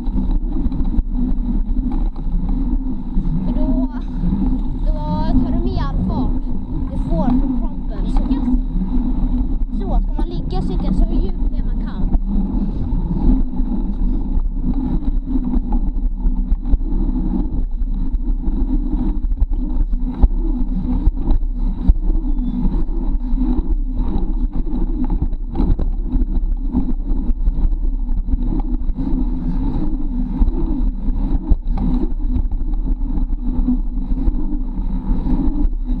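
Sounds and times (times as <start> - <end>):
bicycle tyres on asphalt: 0.0 - 36.0
wind rumble on microphone: 0.0 - 36.0.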